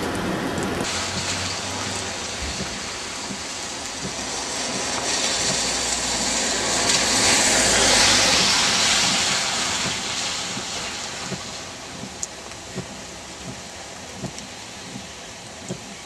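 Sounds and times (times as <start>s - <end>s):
rain: 0.0s - 16.0s
vehicle passing on wet road: 0.0s - 16.0s.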